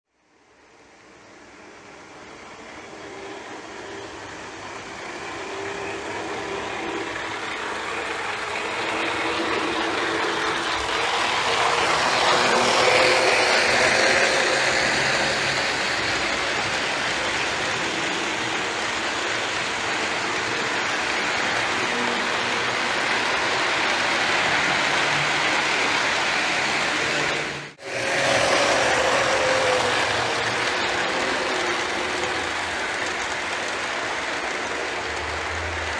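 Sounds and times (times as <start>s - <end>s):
toy train wheels rumbling: 0.3s - 35.9s
train motor whine: 0.4s - 35.9s.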